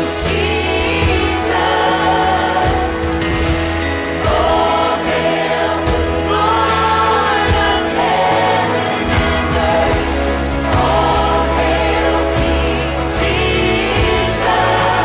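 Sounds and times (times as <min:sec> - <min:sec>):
backing band bass and drums: 0:00.0 - 0:15.0
choir singing a worship song: 0:00.0 - 0:15.0.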